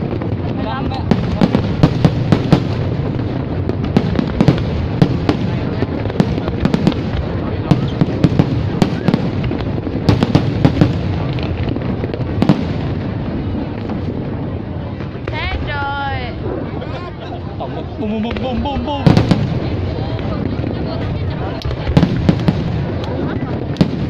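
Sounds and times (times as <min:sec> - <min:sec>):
fireworks bangs: 0:00.0 - 0:16.8, 0:17.4 - 0:24.0.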